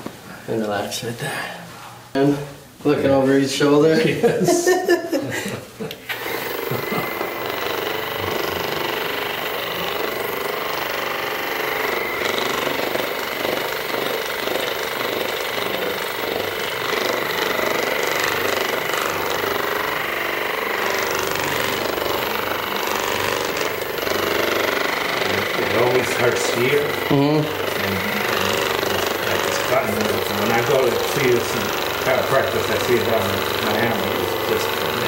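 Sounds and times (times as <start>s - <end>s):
small motorised device buzzing: 6.1s - 35.0s.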